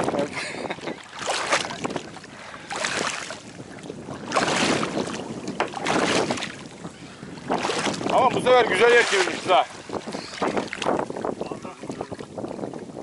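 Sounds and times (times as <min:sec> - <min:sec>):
water sloshing around wading people: 0:00.0 - 0:13.0
wind buffeting microphone: 0:00.0 - 0:13.0.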